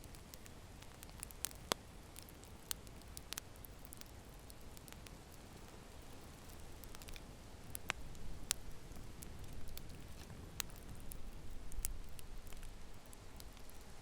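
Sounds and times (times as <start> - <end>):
fire crackling and popping: 0.0 - 14.0
low rumble and hiss: 0.0 - 14.0.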